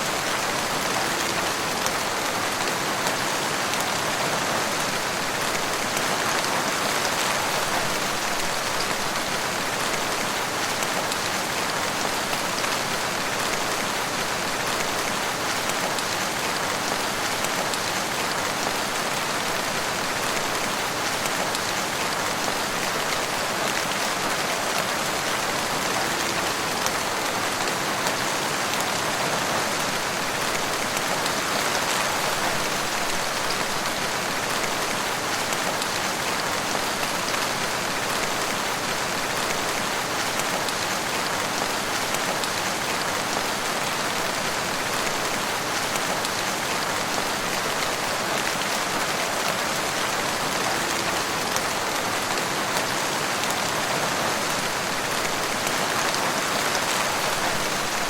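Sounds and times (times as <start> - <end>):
rain on leaves and ground: 0.0 - 58.0.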